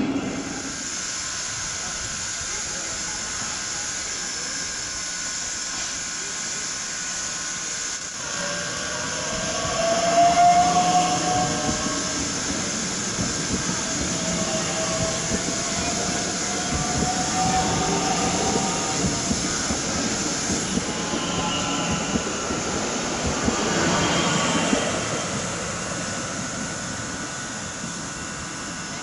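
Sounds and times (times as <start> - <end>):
electric train whine: 0.0 - 29.0
train wheels on rails: 0.0 - 29.0.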